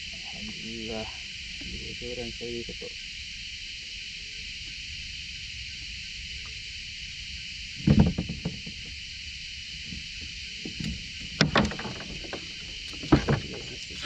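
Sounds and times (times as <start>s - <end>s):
high hiss of insects: 0.0s - 14.0s.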